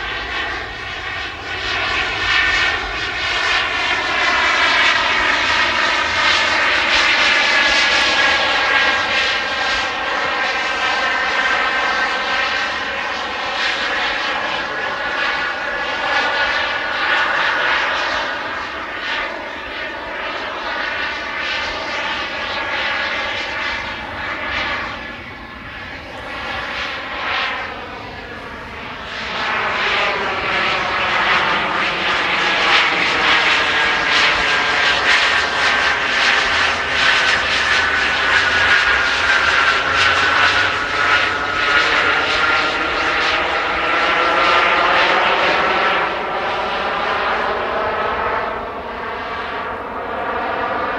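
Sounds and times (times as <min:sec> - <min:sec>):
model jet turbines rushing: 0:00.0 - 0:50.9.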